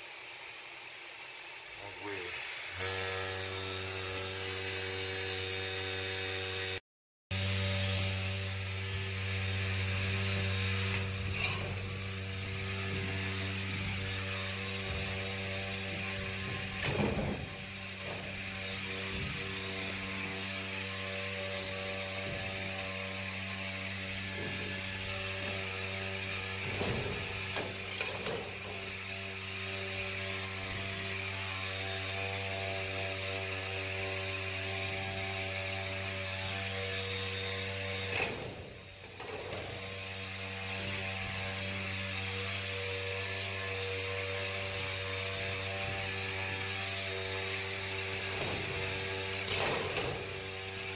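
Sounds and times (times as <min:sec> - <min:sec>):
hvac mechanical hum: 0:07.3 - 0:50.9.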